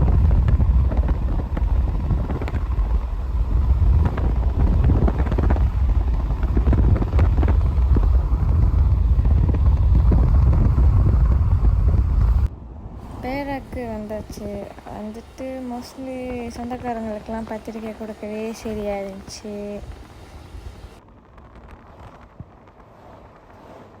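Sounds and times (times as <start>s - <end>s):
car road noise: 0.0s - 24.0s
wind buffeting microphone: 0.0s - 24.0s.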